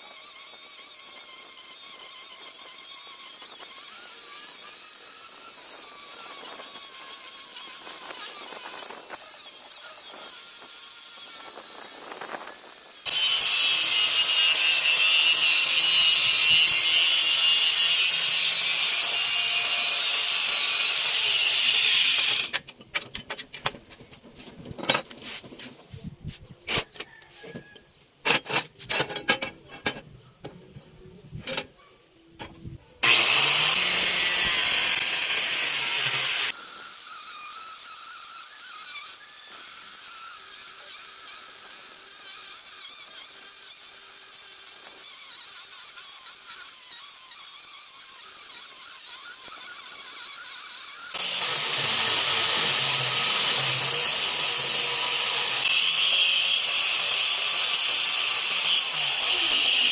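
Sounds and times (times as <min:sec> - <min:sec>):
grinder running quietly: 0:00.0 - 0:22.6, 0:33.0 - 0:59.9
angle grinder cutting steel: 0:00.0 - 0:23.5, 0:33.0 - 0:59.9.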